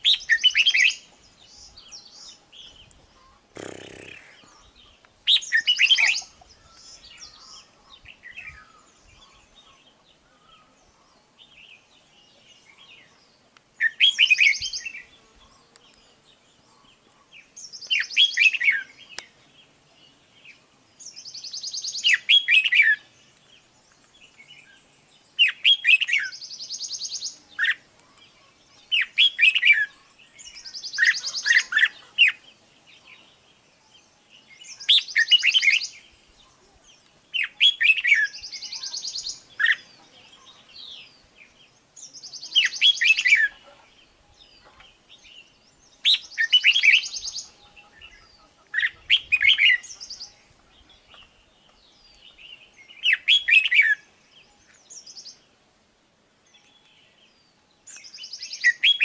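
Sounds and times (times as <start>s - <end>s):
bird singing chirpy phrases: 0.0s - 55.6s, 56.3s - 59.0s.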